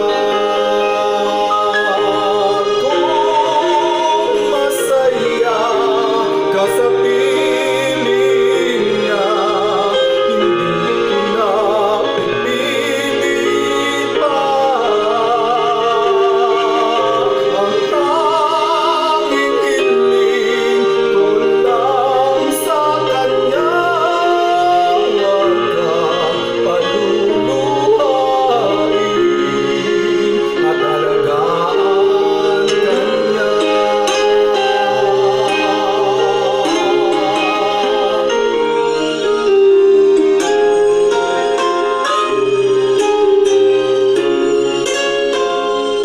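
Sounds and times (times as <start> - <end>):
man singing with vibrato: 0.0 - 46.0
musical backing: 0.0 - 46.0.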